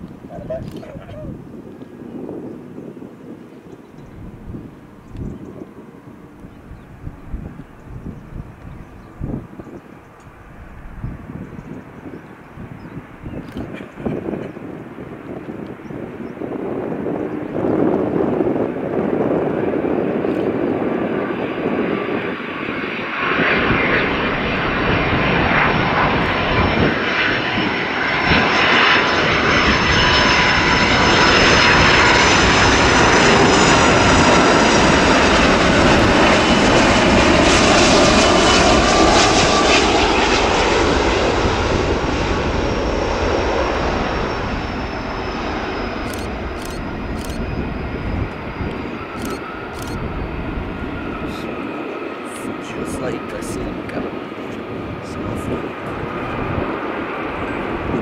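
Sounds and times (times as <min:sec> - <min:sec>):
jet airliner flying past: 0:00.0 - 0:58.0.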